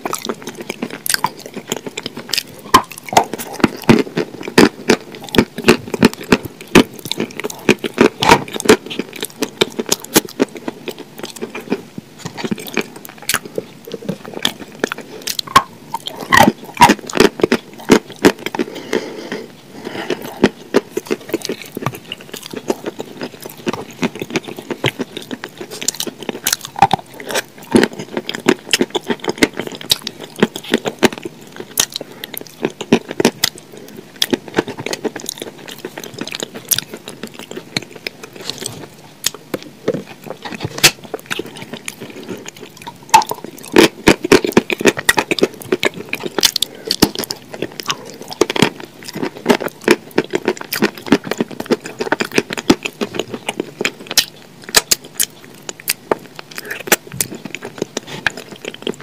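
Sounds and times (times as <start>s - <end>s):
lip smacks and chewing: 0.0s - 19.4s, 20.0s - 59.0s
wet sticky eating sounds: 0.0s - 59.0s.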